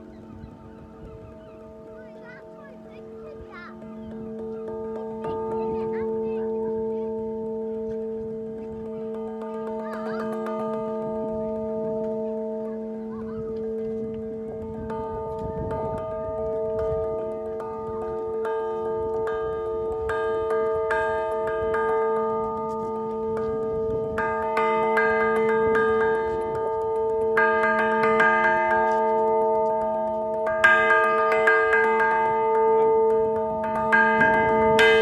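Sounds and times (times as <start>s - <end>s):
bronze bell ringing: 0.8s - 35.0s.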